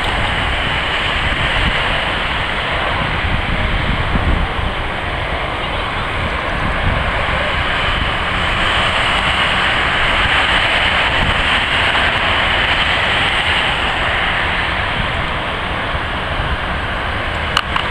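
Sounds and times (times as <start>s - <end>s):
jet engines roaring: 0.0s - 17.9s
wind buffeting microphone: 0.0s - 17.9s.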